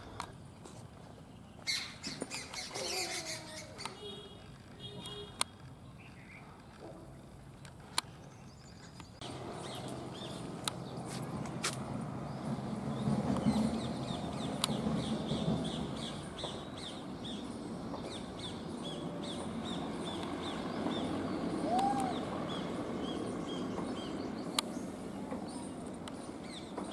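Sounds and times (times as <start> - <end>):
outdoor background noise: 0.0 - 26.9.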